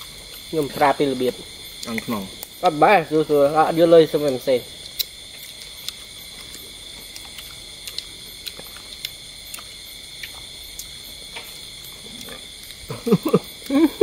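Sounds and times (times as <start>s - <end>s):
insects chirring: 0.0s - 14.0s
people eating with hands: 0.0s - 14.0s.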